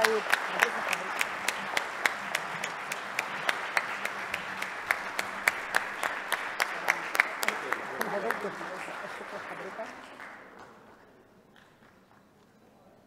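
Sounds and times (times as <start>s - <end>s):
audience applauding: 0.0s - 12.1s
close hands clapping: 0.0s - 12.6s.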